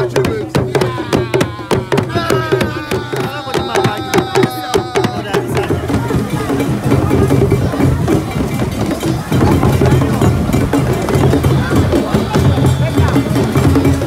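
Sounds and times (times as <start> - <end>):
drums struck with sticks: 0.0 - 14.0.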